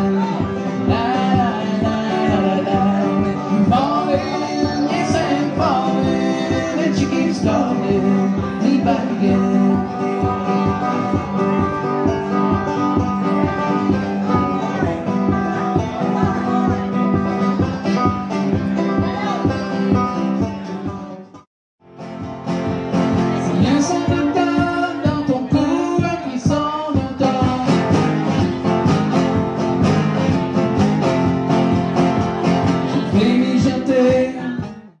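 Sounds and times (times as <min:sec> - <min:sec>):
banjo and guitar picking: 0:00.0 - 0:35.0
two acoustic guitars playing: 0:00.0 - 0:35.0.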